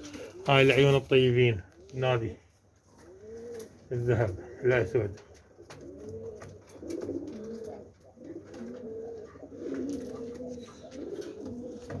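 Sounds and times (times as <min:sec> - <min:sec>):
pigeons cooing: 0:00.0 - 0:02.2, 0:02.9 - 0:12.0.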